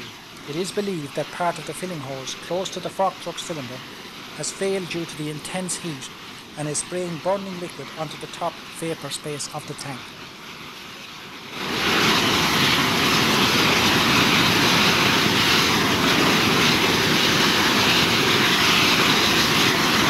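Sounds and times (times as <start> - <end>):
roar of burning gas jet: 0.0 - 20.0.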